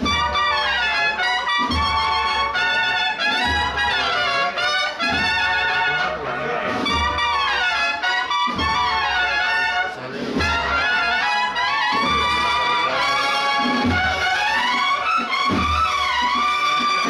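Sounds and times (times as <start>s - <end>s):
brass band playing a march: 0.0s - 17.0s
deep drum beats: 0.0s - 17.0s.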